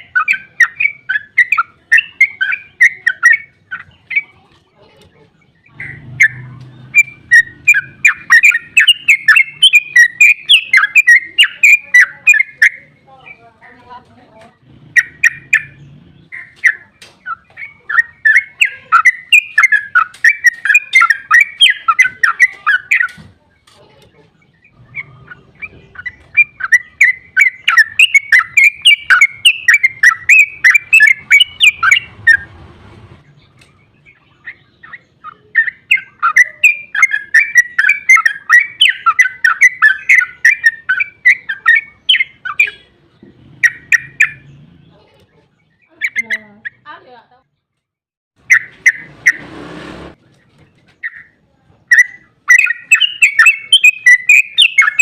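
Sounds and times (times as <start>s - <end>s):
bird singing chattering song: 0.0s - 47.8s, 48.4s - 49.5s, 50.2s - 55.0s.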